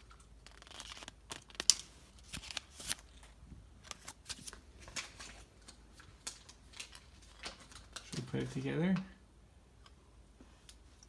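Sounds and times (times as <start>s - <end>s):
paper rustling: 0.0s - 9.0s.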